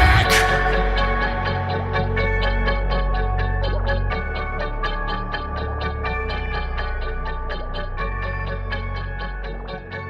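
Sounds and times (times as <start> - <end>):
hip hop instrumental beat: 0.0 - 10.0.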